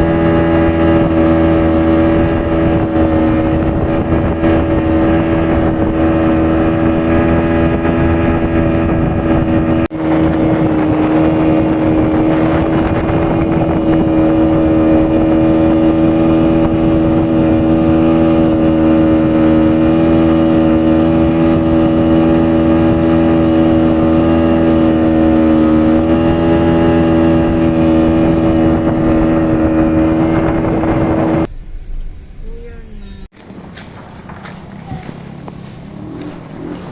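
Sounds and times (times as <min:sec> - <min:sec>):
engine droning steadily: 0:00.0 - 0:36.9.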